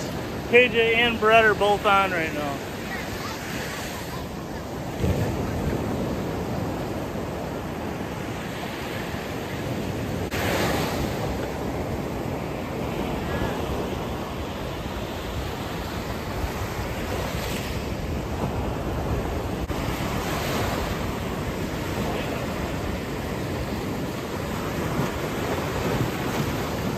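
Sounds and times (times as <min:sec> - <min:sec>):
ocean surf washing on beach: 0:00.0 - 0:26.9.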